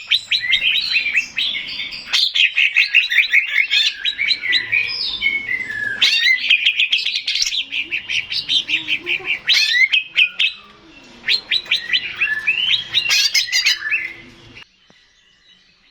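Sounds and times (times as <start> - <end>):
bird singing chirps and whistles: 0.0 - 15.9.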